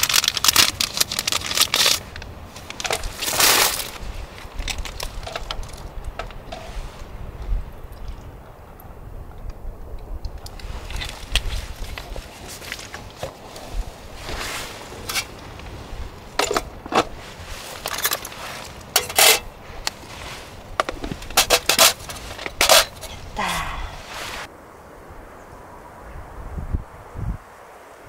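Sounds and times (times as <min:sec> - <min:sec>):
low outdoor background: 0:00.0 - 0:28.0.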